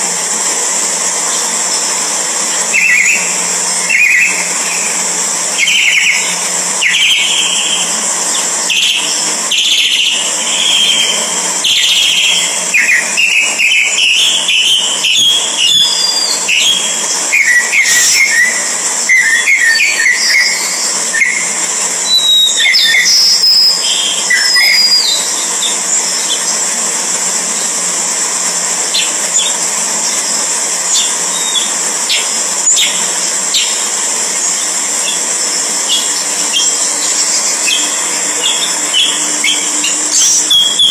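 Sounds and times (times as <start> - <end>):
steady high-pitched hiss: 0.0 - 40.9
birds chirping: 2.6 - 26.6, 29.0 - 40.9.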